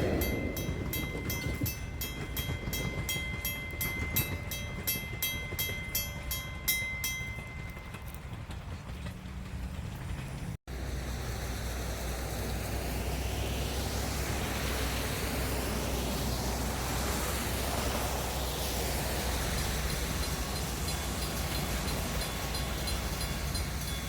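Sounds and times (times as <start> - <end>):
train passing: 0.0 - 24.0
wheels rushing on rails: 0.0 - 24.0.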